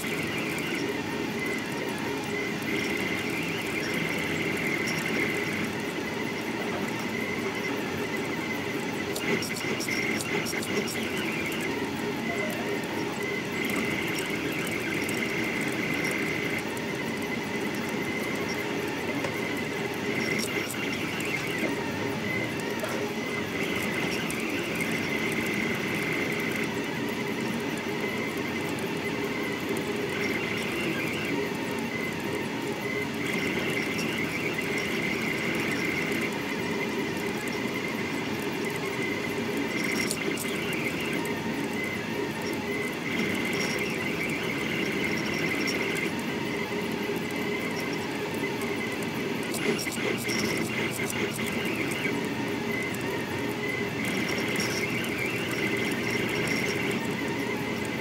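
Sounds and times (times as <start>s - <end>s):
printer stepper motors whining: 0.0s - 58.0s.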